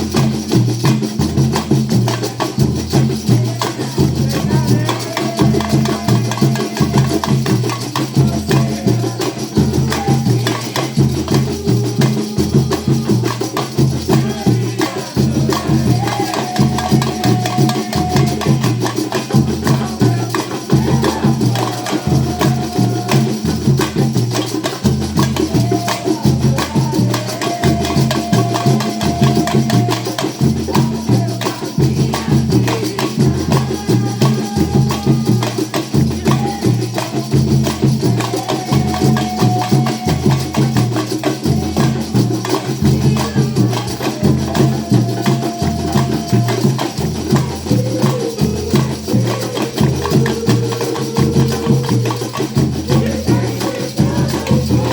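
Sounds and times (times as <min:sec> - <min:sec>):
percussion: 0:00.0 - 0:54.9.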